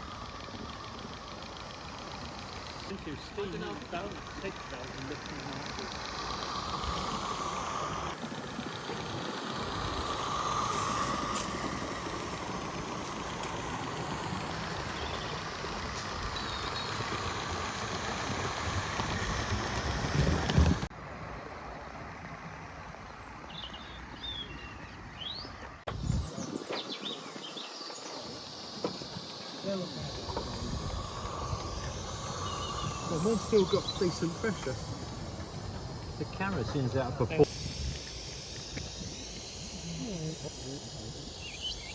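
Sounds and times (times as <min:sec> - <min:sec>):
steam locomotive hissing: 0:00.0 - 0:20.9, 0:25.9 - 0:41.9.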